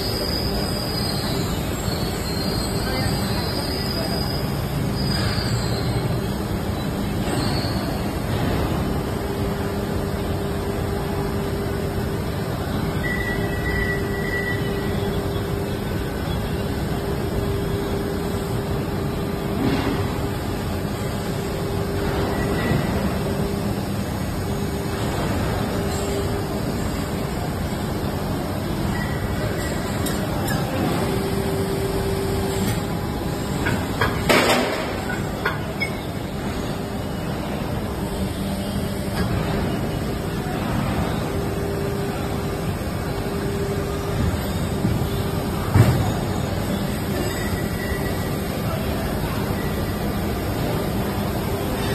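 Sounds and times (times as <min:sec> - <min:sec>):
constant mechanical noise: 0:00.0 - 0:51.9.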